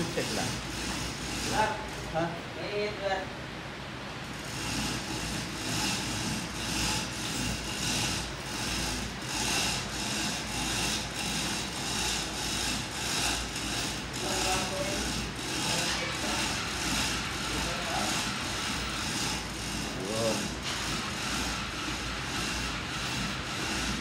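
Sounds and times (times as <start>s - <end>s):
rhythmic scraping strokes: 0.0s - 2.4s, 4.2s - 24.0s.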